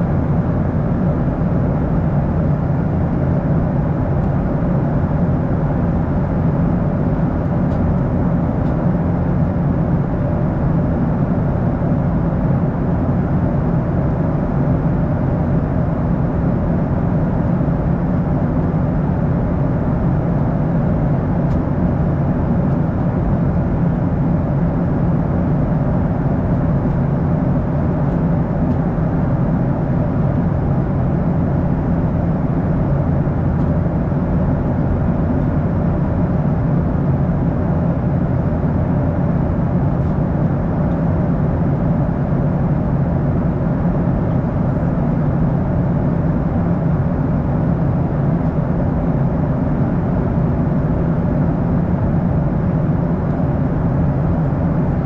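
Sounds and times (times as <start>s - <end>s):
airplane cabin engine hum: 0.0s - 55.0s.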